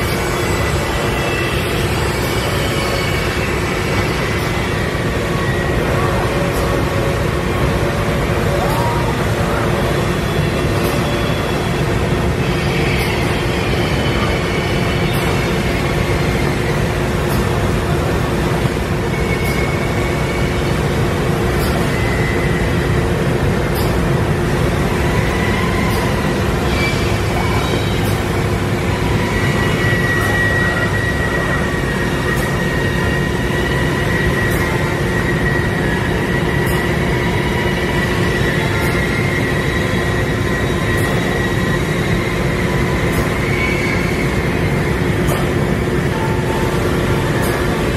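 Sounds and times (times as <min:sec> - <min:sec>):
loud machine noise: 0:00.0 - 0:47.9.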